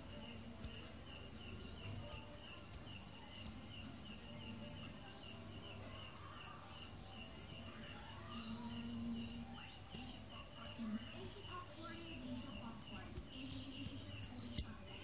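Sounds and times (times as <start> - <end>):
faint chirping: 0.0 - 15.0
low steady hum: 0.0 - 15.0
sharp ticks: 0.0 - 15.0.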